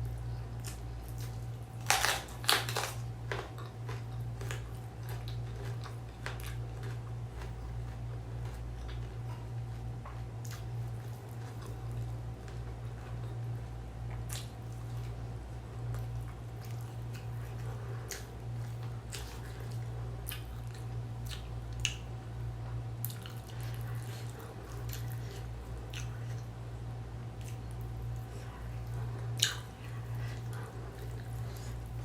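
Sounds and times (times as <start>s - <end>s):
person chewing food: 0.0s - 32.0s
steady low hum: 0.0s - 32.0s.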